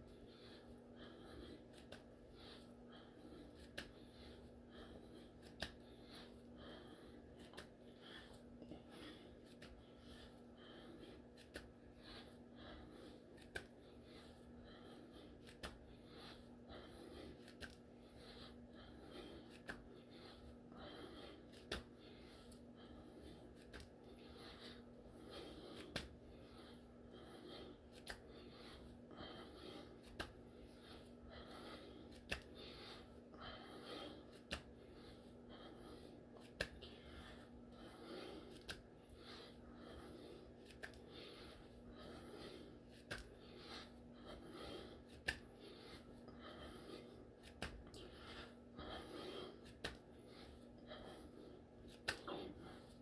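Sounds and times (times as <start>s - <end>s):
man breathing: 0.0s - 53.0s.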